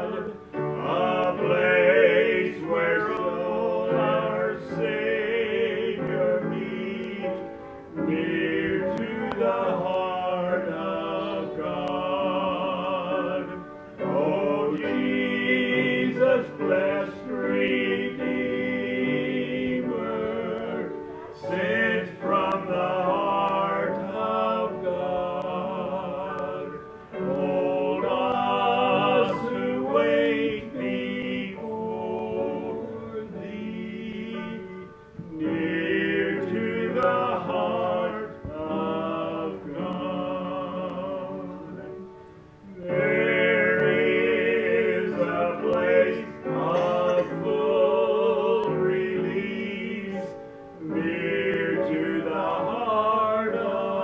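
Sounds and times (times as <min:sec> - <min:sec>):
two men singing a hymn: 0:00.0 - 0:54.0.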